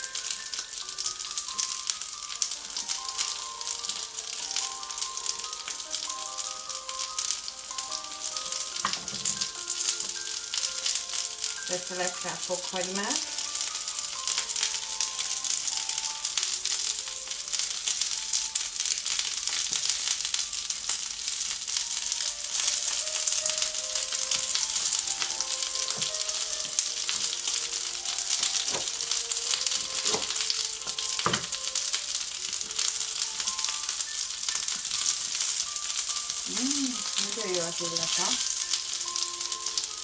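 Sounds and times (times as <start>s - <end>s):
sprouts sizzling in a grill pan: 0.0s - 40.0s.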